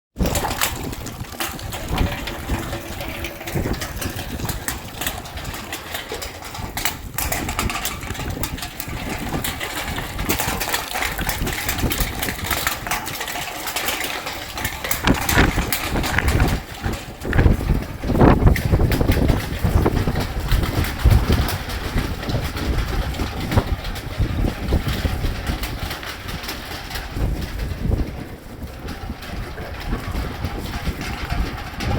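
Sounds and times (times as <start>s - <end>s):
gusty wind buffeting microphone: 0.2s - 31.9s.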